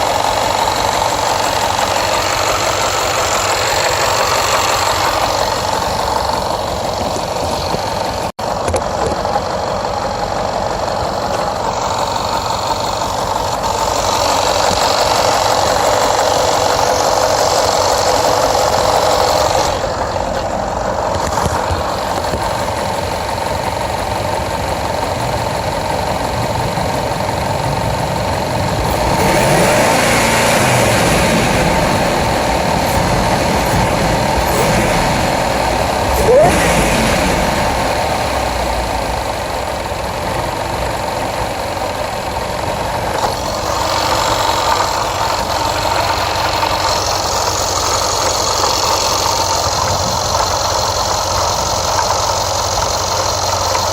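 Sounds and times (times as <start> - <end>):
misfiring car engine: 0.0 - 53.9.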